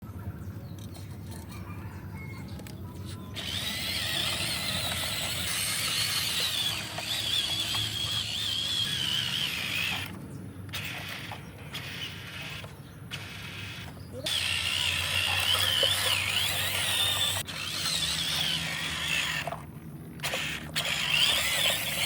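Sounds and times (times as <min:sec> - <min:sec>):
electric motor whining: 0:02.5 - 0:22.0.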